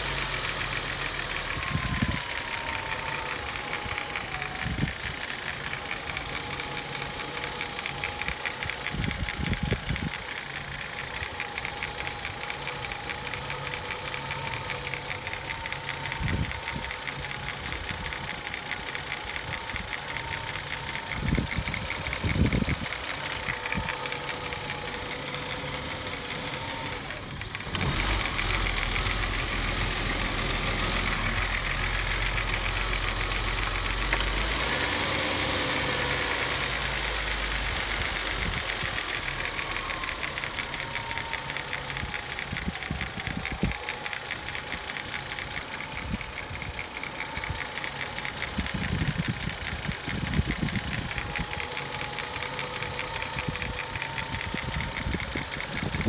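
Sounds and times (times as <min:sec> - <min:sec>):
engine running: 0:00.0 - 0:56.0
fast regular rattling clatter: 0:00.0 - 0:56.0.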